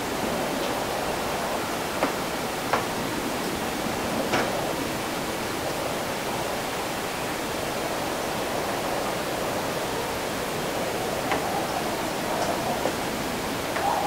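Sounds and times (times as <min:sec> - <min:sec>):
after-rain city ambience hiss: 0:00.0 - 0:14.0.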